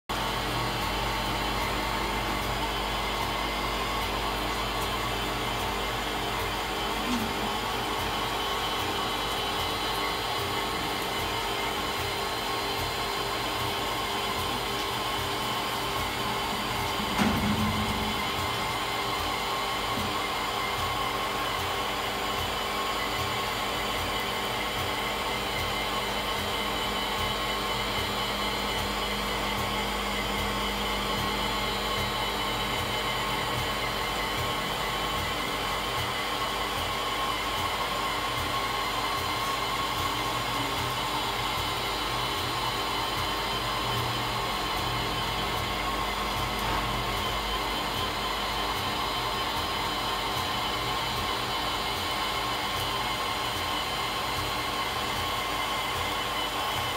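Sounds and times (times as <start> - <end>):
machine whirring hum: 0.1 - 56.9.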